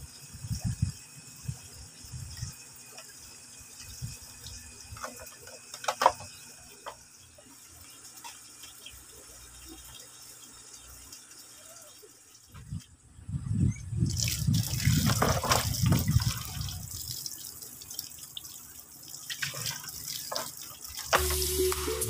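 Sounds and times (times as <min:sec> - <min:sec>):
water trickling from a hose: 0:00.0 - 0:13.2, 0:14.0 - 0:22.0.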